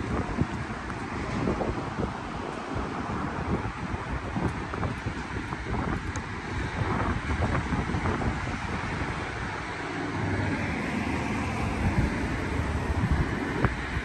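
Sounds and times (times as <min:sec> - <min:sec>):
cars passing by: 0:00.0 - 0:14.0.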